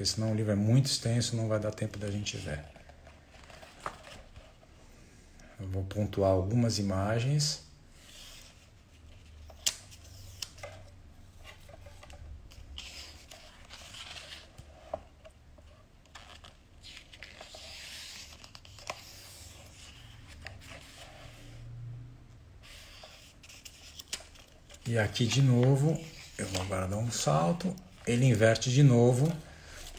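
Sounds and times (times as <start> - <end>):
book pages turning: 0.9 - 4.7, 8.0 - 21.7, 22.6 - 29.9.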